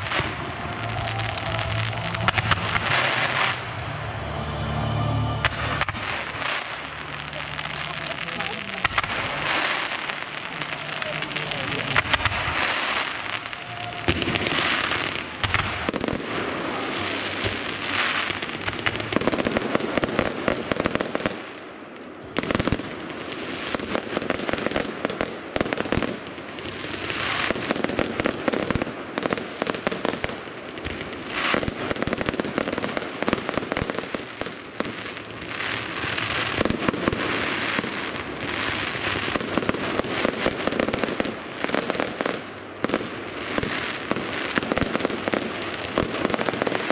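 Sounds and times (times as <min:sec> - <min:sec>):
crackling fizz of fireworks: 0:00.0 - 0:04.2, 0:05.4 - 0:46.9.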